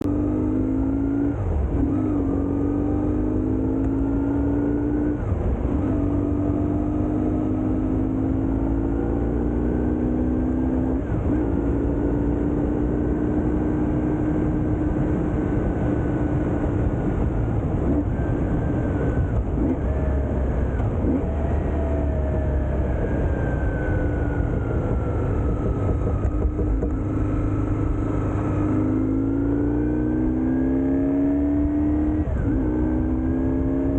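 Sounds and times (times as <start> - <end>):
motorcycle engine accelerating: 0.0 - 33.9
wind and road noise: 0.0 - 33.9.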